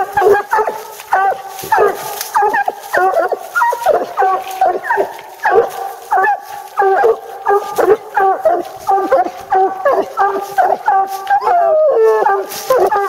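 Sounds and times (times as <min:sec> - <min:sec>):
hounds barking: 0:00.0 - 0:13.0.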